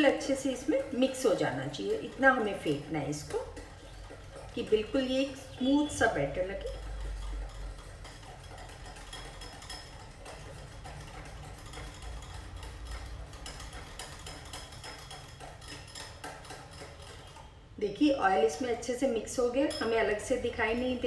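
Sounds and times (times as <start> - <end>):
whisk clicking against glass bowl: 0.0 - 17.5.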